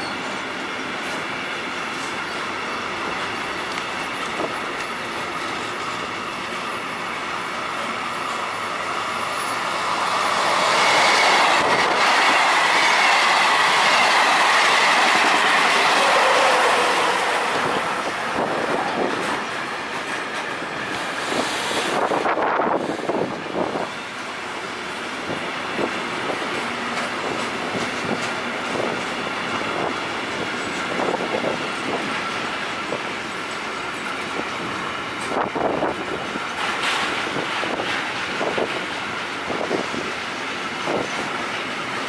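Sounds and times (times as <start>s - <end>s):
passenger train passing with whine: 0.0s - 42.0s
freight train wheels clicking: 0.2s - 42.0s.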